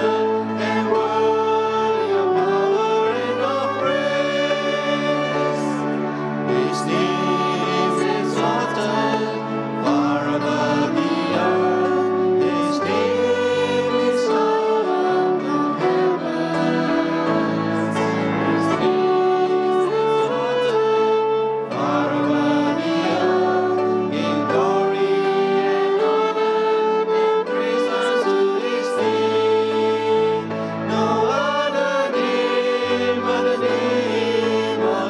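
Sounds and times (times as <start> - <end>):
group singing worship song: 0.0 - 20.9, 21.6 - 35.0
piano accompaniment: 0.0 - 35.0.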